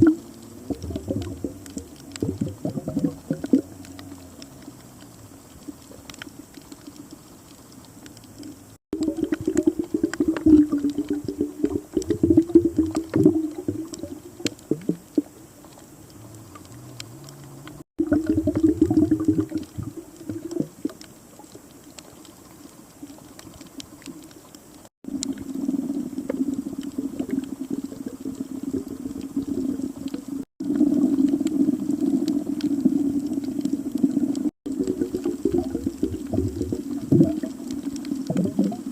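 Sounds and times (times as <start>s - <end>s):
underwater bubbling: 0.0s - 38.9s.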